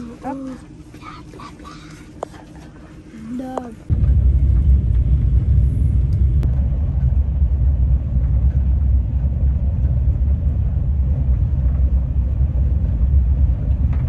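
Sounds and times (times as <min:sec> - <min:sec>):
train carriage low rumble: 0:00.0 - 0:14.0.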